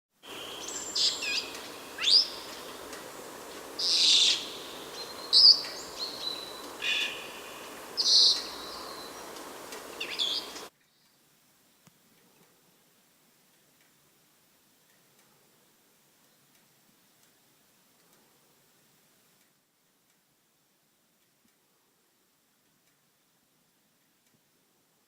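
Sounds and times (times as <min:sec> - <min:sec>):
steady hiss: 0:00.1 - 0:25.0.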